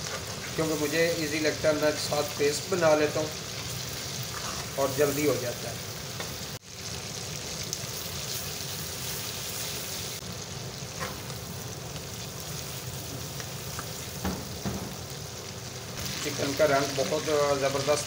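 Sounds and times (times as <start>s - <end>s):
chicken sizzling in oil: 0.0s - 18.0s.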